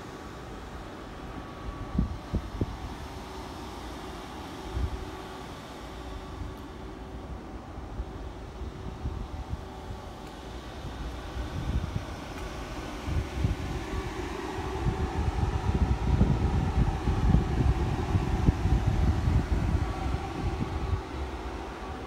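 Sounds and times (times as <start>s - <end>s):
electric air blower fan hum: 0.0s - 22.0s.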